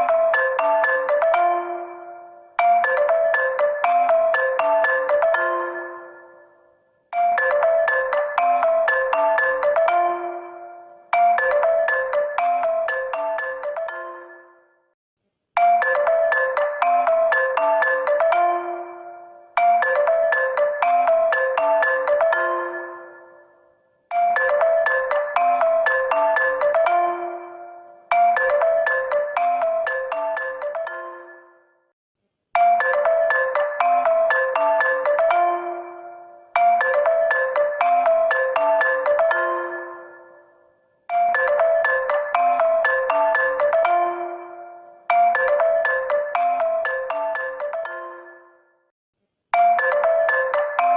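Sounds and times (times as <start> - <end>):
phone ringtone melody: 0.0 - 15.0, 15.6 - 31.9, 32.6 - 48.9, 49.6 - 50.9.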